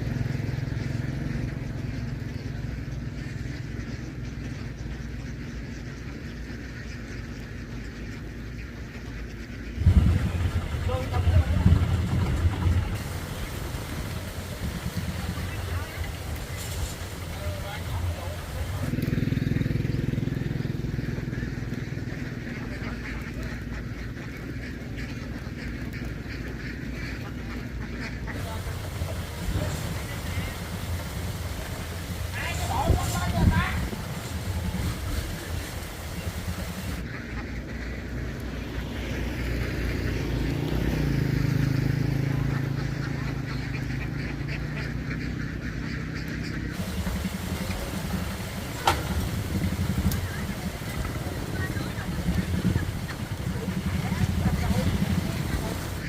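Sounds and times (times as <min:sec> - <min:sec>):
low motor hum: 0:00.0 - 0:27.0, 0:28.2 - 0:44.9, 0:45.6 - 0:56.0
engine running low: 0:00.0 - 0:56.0
flock of ducks quacking: 0:00.0 - 0:56.0.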